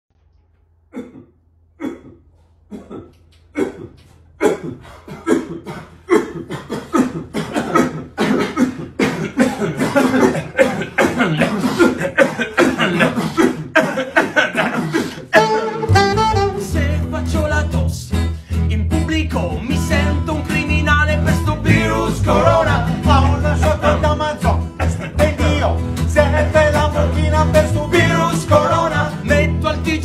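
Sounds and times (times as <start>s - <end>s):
beatboxing: 2.7s - 30.0s.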